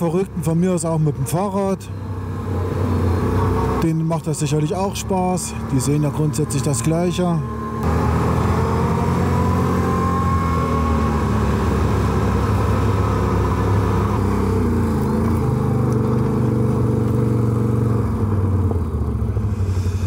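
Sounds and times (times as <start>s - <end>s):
quad engine revving: 0.0s - 20.0s
wind and road noise: 0.0s - 20.0s.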